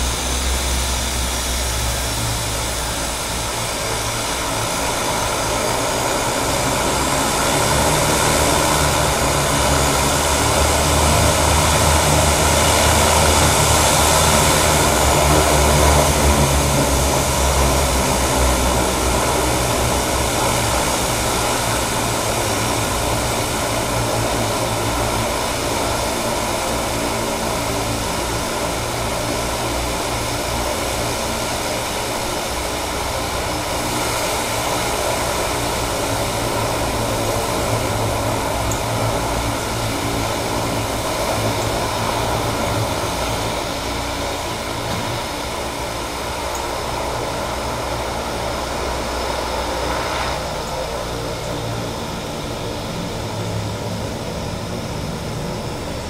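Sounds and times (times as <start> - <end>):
propeller engine drone: 0.0 - 56.0.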